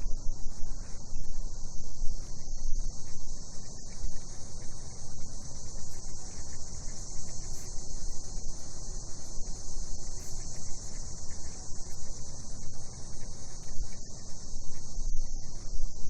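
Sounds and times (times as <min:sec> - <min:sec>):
cicadas singing: 0:00.7 - 0:15.7.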